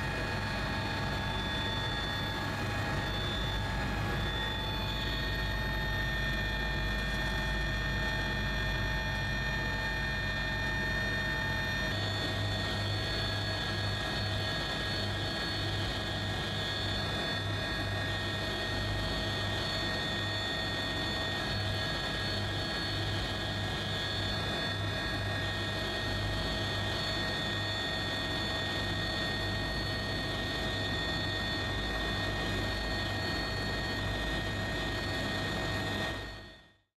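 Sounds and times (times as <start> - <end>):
helicopter rotor throb: 0.0 - 36.8
helicopter turbine whine: 0.0 - 36.9.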